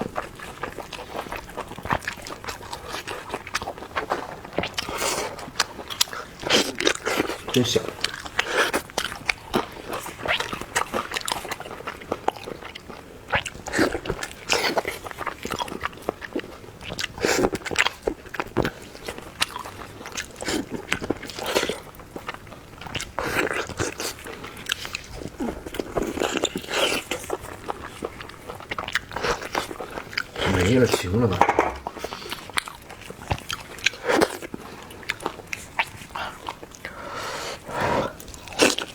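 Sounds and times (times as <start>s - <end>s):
biting and chewing food: 0.0s - 38.9s.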